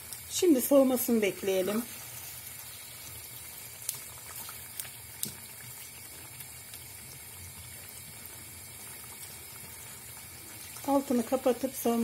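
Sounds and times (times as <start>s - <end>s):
food sizzling in oil: 0.0s - 12.0s
oil popping: 1.6s - 12.0s.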